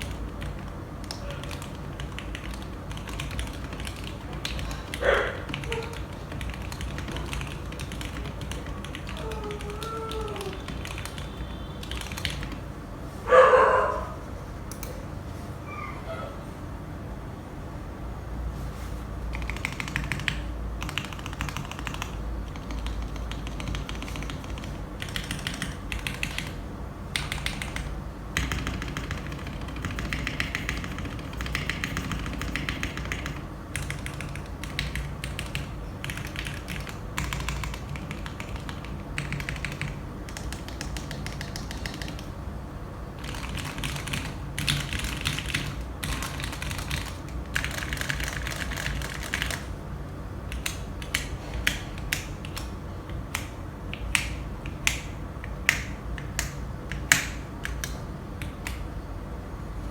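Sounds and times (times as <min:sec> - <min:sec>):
mechanical keyboard typing: 0:00.0 - 0:12.6, 0:19.3 - 0:42.3, 0:43.2 - 0:49.8, 0:50.5 - 0:58.8
steady low hum: 0:00.0 - 0:59.9.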